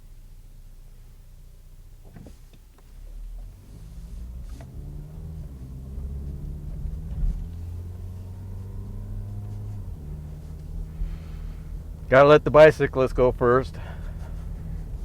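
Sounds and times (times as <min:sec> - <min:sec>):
car engine hum: 0:00.0 - 0:15.0
tyre road noise: 0:02.0 - 0:15.0.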